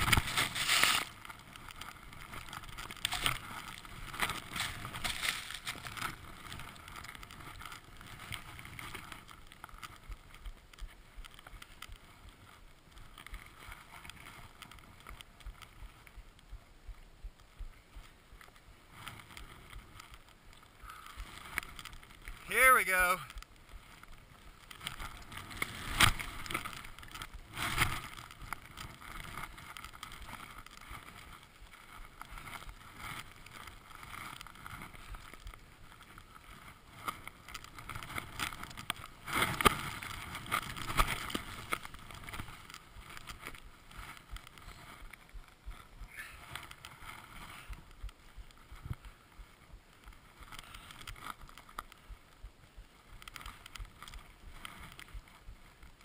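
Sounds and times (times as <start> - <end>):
skis swishing through powder snow: 0.0 - 16.7, 17.7 - 56.0.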